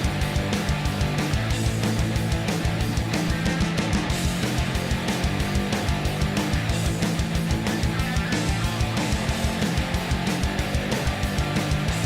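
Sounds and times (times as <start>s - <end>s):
distorted electric guitar: 0.0s - 12.0s
fast drum beat: 0.0s - 12.0s.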